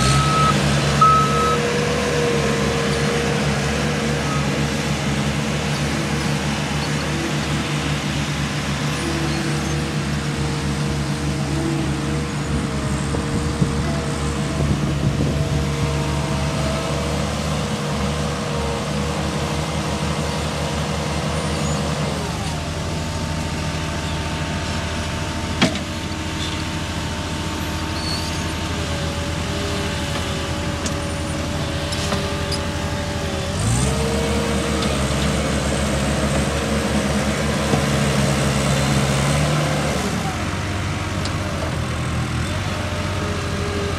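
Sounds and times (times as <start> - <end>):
diesel engine and hydraulics: 0.0 - 43.9.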